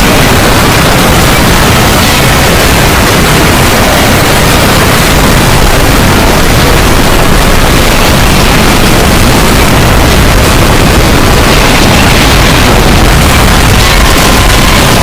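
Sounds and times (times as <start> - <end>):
loud distorted static noise: 0.0 - 15.0.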